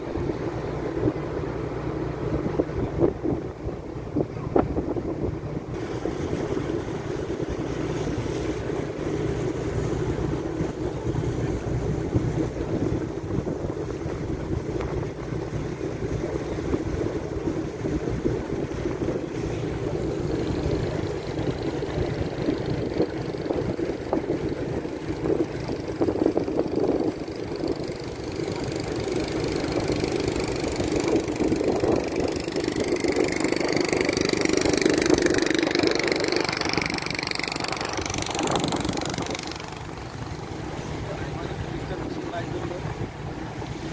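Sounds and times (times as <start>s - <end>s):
boat engine running: 0.0s - 43.9s.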